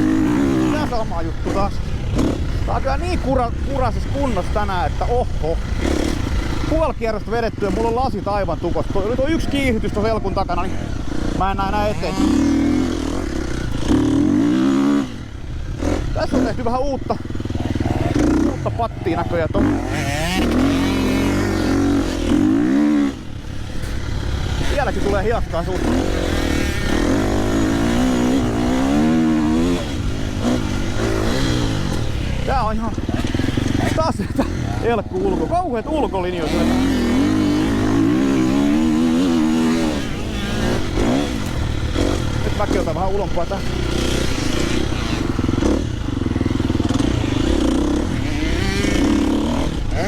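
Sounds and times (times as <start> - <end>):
motocross bike engine revving: 0.0 - 50.0.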